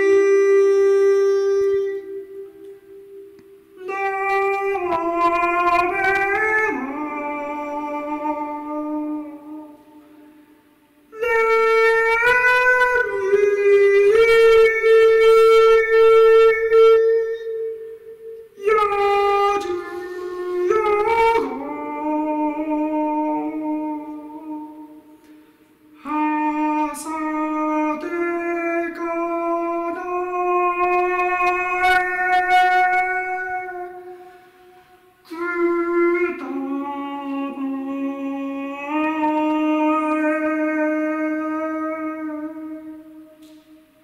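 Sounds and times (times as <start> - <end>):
wind instrument long notes: 0.0 - 44.0.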